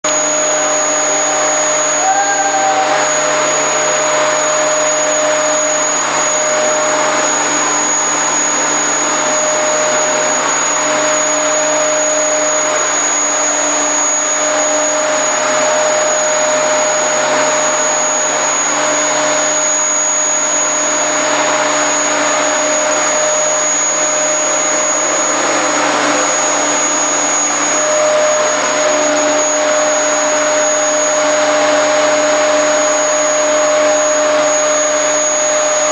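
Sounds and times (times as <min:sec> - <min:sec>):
vacuum cleaner running: 0:00.0 - 0:35.9.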